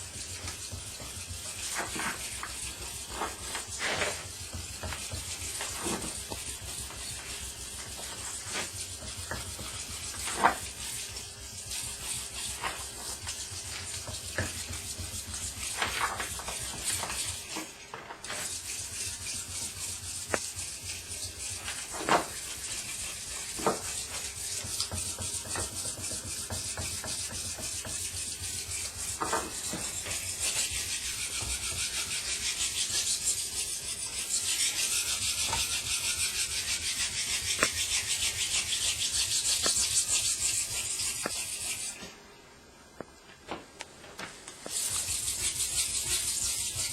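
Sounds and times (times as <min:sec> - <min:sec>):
knife grinding on water stone: 0:00.4 - 0:42.0.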